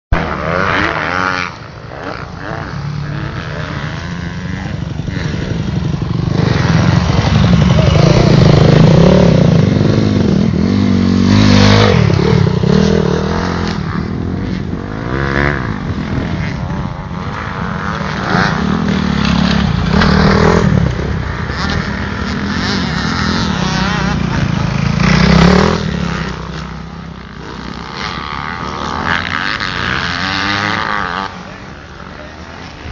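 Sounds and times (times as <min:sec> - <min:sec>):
motocross bikes revving past: 0:00.1 - 0:32.9.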